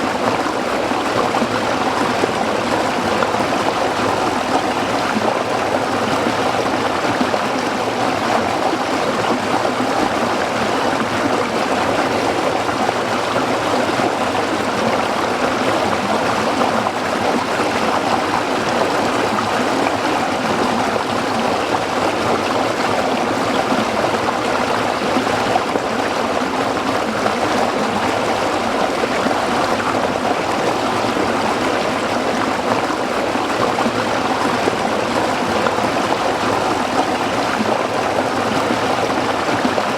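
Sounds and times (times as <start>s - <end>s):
stream splashing over rocks: 0.1s - 39.9s.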